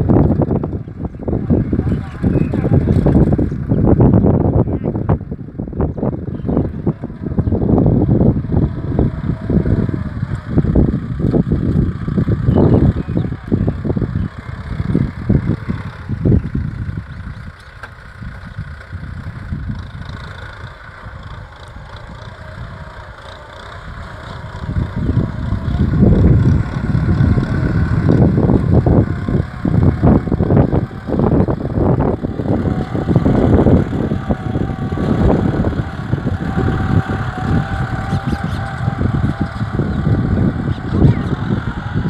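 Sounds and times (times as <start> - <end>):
tractor diesel engine rumbling: 0.0 - 42.0.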